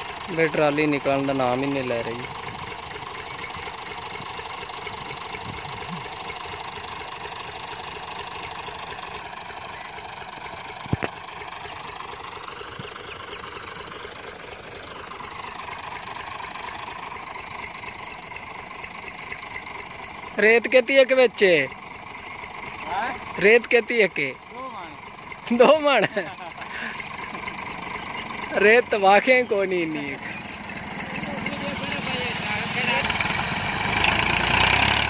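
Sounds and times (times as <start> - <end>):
tractor diesel engine idling: 0.0 - 35.0.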